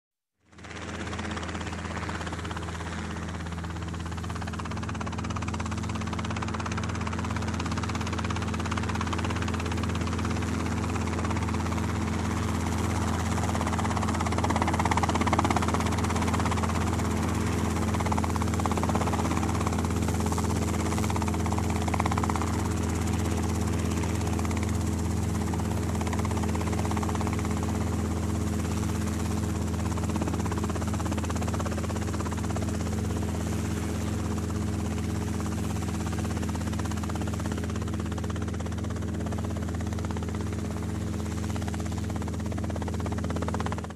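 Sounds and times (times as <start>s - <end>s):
helicopter drone: 0.4s - 43.9s.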